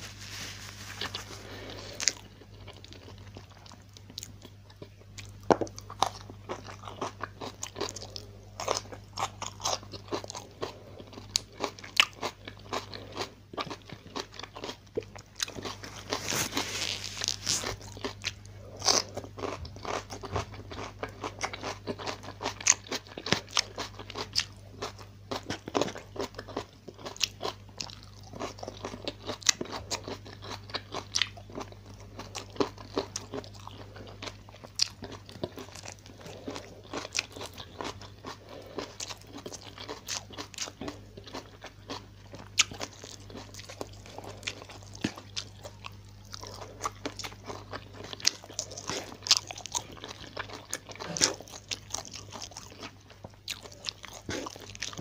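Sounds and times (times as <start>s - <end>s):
chewing and crunching: 0.0s - 55.0s
faint low hum: 0.0s - 55.0s.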